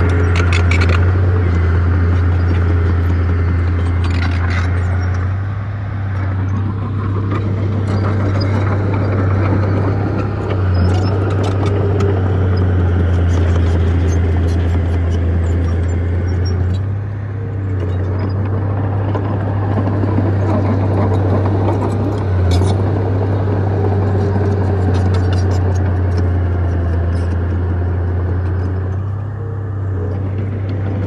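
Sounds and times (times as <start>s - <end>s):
diesel earthmoving machinery drone: 0.0s - 31.0s.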